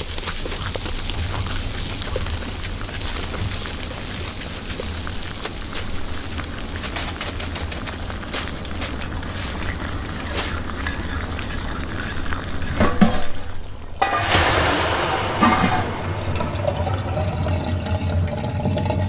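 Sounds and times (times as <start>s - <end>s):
food frying crackle and pops: 0.0s - 19.0s.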